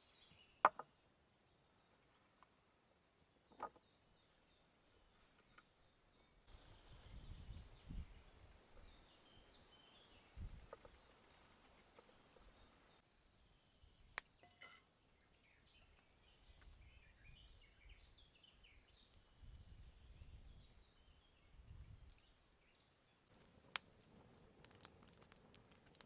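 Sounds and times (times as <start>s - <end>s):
forest birdsong chirps: 0.0s - 23.3s.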